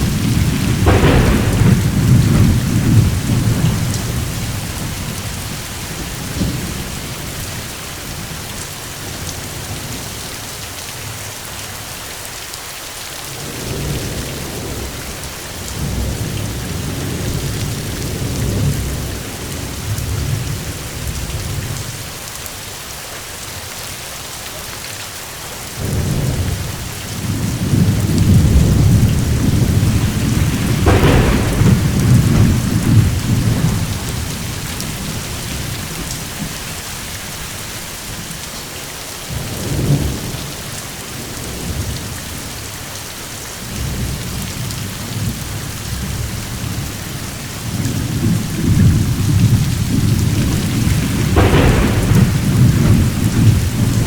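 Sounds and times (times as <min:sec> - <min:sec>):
rolling thunder: 0:00.0 - 0:10.2, 0:13.3 - 0:21.9, 0:25.8 - 0:38.6, 0:39.3 - 0:42.6, 0:43.6 - 0:54.0
heavy rain: 0:00.0 - 0:54.0.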